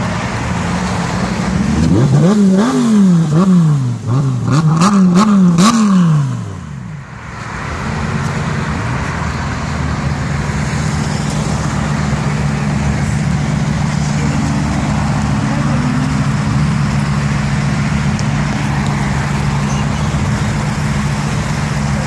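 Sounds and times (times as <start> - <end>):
steady low engine note: 0.0 - 22.0
sports car engine revving: 0.5 - 6.9, 7.8 - 22.0.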